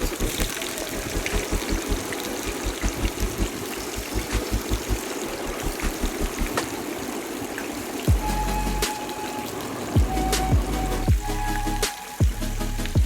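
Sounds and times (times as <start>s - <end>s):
oil popping: 0.0s - 13.0s.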